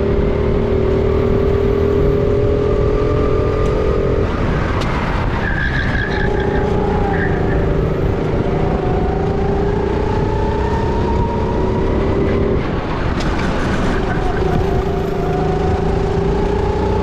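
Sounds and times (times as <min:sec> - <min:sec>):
kart engine revving: 0:00.0 - 0:17.0.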